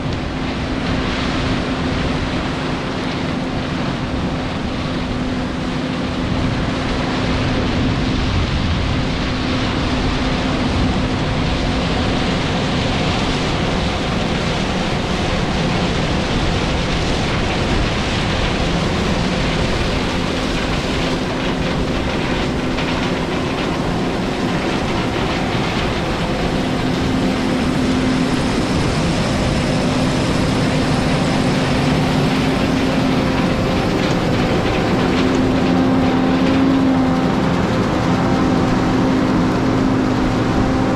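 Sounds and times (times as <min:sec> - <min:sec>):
combine harvester diesel rattling: 0:00.0 - 0:40.9
constant hum: 0:00.0 - 0:40.9.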